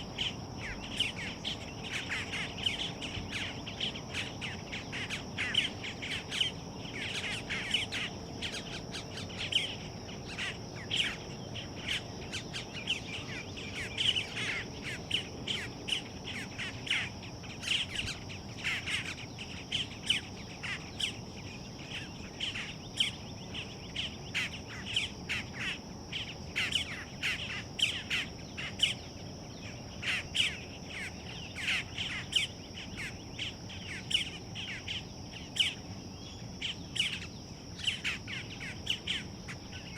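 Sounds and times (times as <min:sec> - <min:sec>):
grackle fledglings calling: 0:00.0 - 0:39.9.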